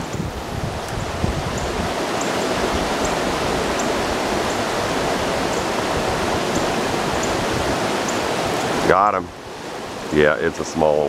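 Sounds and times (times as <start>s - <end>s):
creek waterfall rushing: 0.0s - 11.0s.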